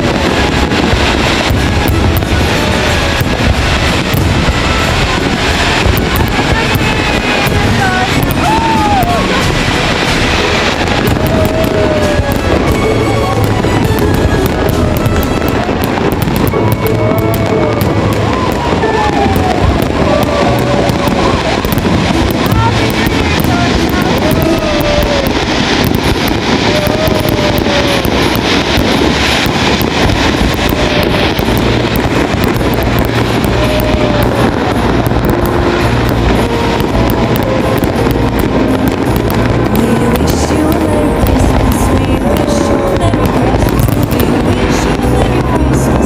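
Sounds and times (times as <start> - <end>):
fireworks crackling and banging: 0.0 - 46.0.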